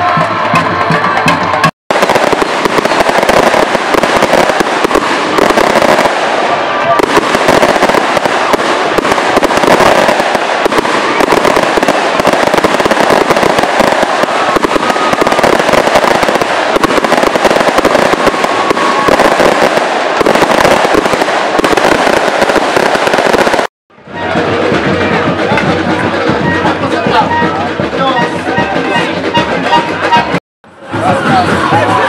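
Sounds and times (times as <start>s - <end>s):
firecrackers crackling: 0.0s - 30.4s.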